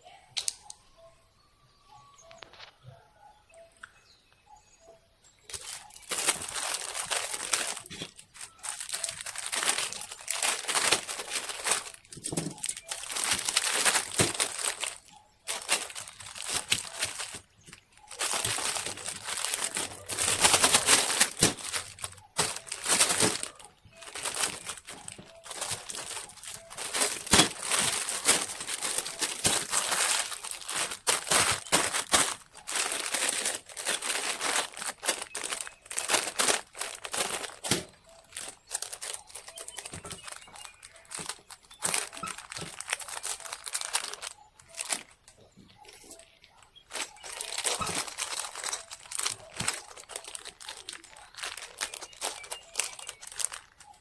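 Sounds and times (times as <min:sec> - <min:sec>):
crinkling and crackling: 0:05.3 - 0:54.0.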